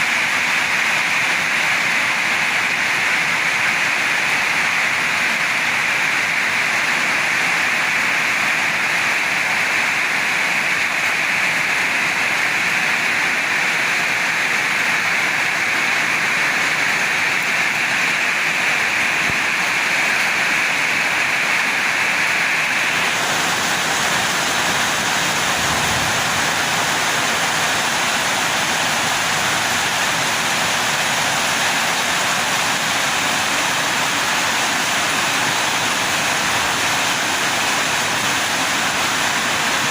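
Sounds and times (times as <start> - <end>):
heavy rain in strong wind: 0.0 - 39.9.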